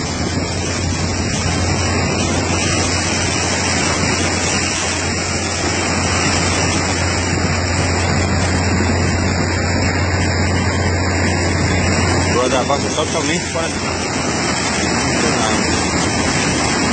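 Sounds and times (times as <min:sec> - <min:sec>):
boat engine humming: 0:00.0 - 0:16.9
water splashing over boat deck: 0:00.0 - 0:16.9.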